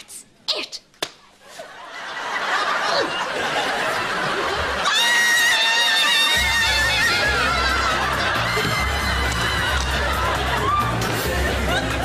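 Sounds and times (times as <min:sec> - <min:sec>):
audience laughter: 0:01.5 - 0:12.0.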